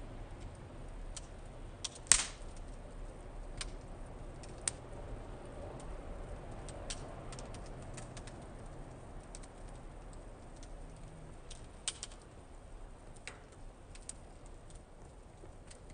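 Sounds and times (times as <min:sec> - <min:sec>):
fire crackling and popping: 0:00.0 - 0:15.9.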